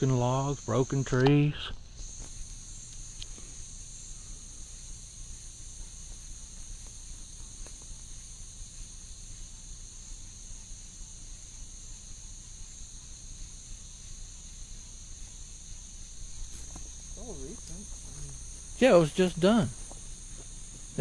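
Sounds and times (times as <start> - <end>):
insect chorus trilling: 0.0 - 21.0.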